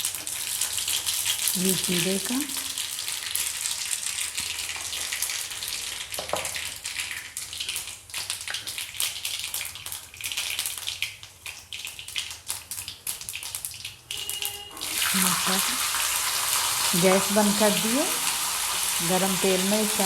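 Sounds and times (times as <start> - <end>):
seeds sizzling in hot oil: 0.0 - 20.0.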